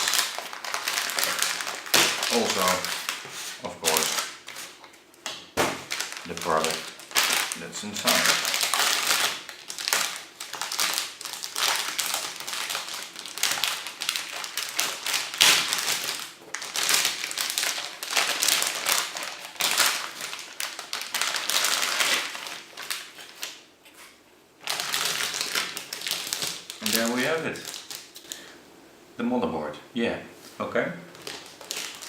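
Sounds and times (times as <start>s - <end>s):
packaging rustling and crinkling: 0.0s - 28.6s, 31.1s - 32.0s.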